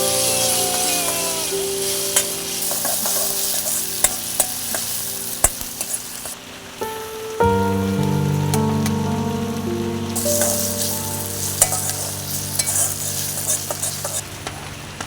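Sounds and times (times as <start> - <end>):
food sizzling in hot oil: 0.0 - 7.3, 7.9 - 15.0.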